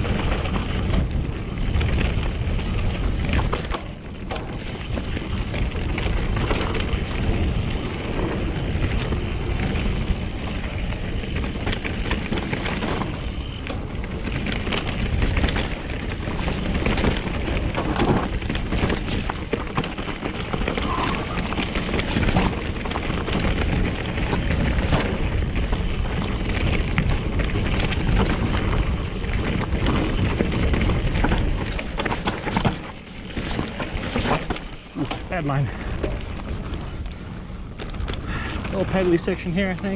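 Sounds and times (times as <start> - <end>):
bike rattling over rough ground: 0.0 - 39.9
bike tire rumble: 0.0 - 39.9
wind buffeting microphone: 0.0 - 39.9.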